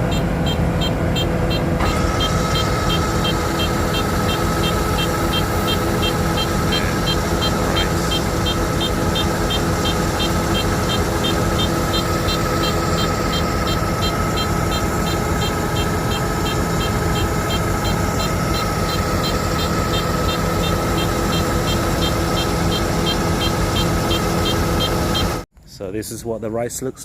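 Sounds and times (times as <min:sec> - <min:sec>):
combine harvester running: 0:00.0 - 0:25.4.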